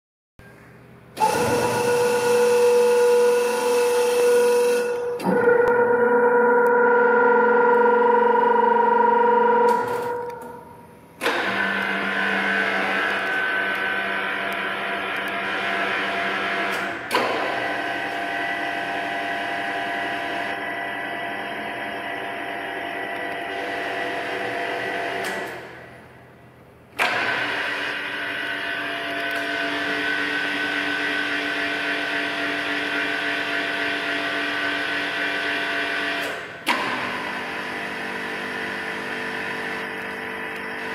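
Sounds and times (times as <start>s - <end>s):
drilling machine motor whine: 1.2s - 25.8s, 27.0s - 40.9s.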